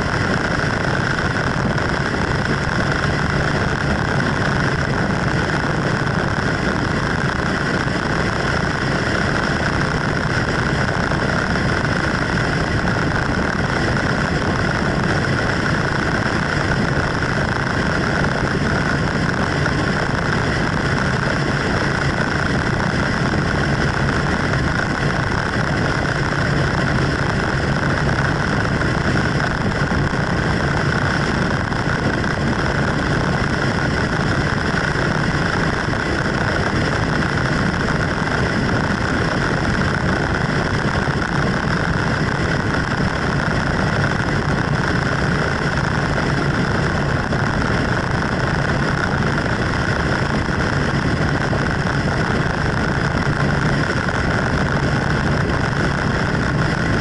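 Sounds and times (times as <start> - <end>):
vehicle engine drone: 0.0 - 57.0
wind and road noise: 0.0 - 57.0.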